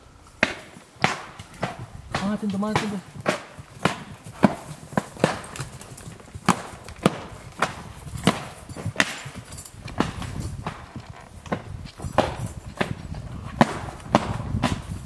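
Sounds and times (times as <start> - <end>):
footsteps on dry dirt: 0.0 - 15.0.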